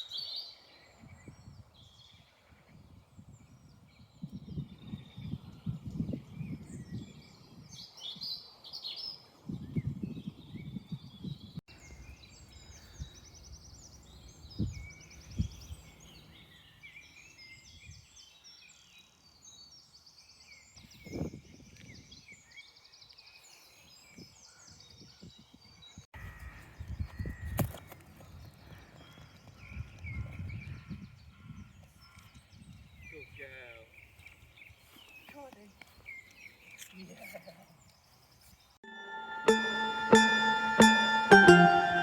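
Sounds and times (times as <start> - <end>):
small birds singing: 0.0 - 38.8.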